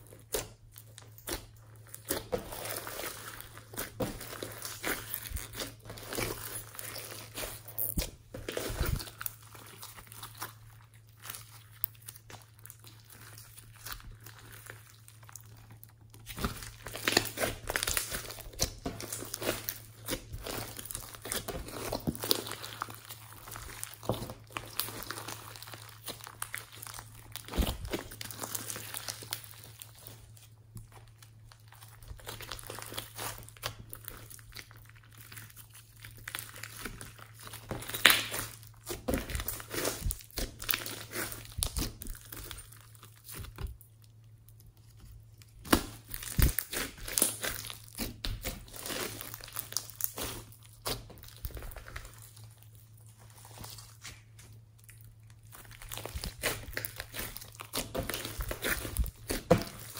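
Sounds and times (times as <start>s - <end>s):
slime squishing with wet pops: 0.0s - 52.8s, 53.4s - 59.9s.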